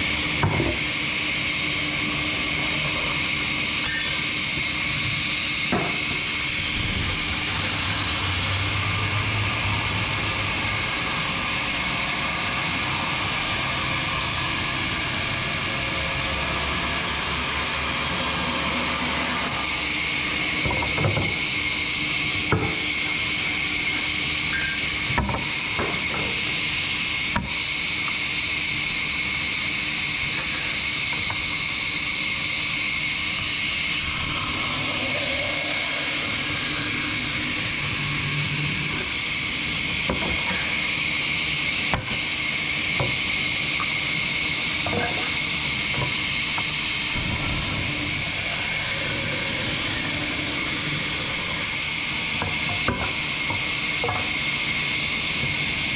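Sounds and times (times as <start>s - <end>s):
machine hum and high whine: 0.0s - 55.9s.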